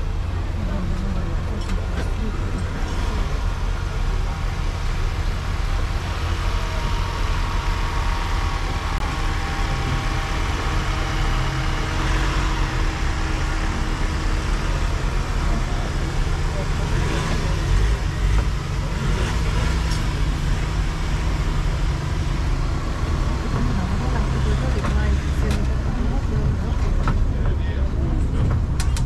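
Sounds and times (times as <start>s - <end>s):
road train rumbling: 0.0s - 29.0s.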